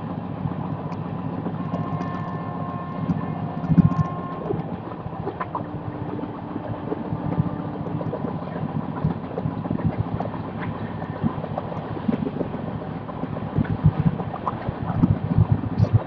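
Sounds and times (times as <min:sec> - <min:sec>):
train rumbling with clicks and rattles: 0:00.0 - 0:16.0.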